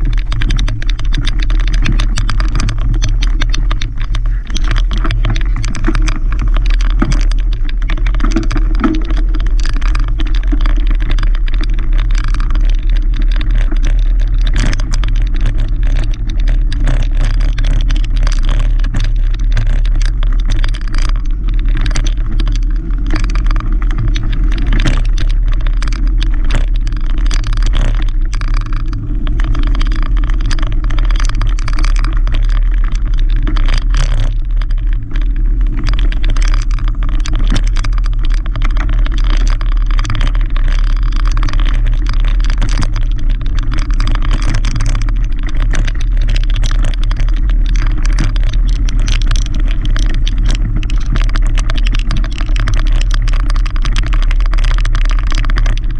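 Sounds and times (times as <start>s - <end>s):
rattle of bike and stones: 0.0s - 55.9s
tyres rumbling on gravel: 0.0s - 55.9s
wind on camera: 0.0s - 55.9s.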